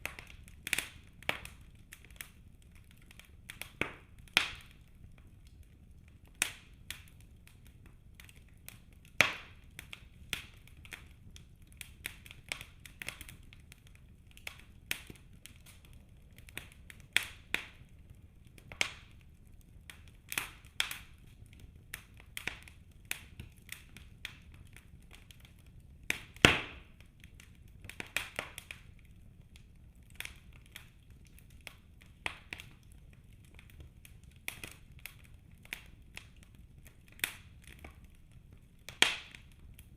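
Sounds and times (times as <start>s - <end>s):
low steady fire hiss: 0.0s - 39.9s
wood fire crackling and popping: 0.0s - 39.9s.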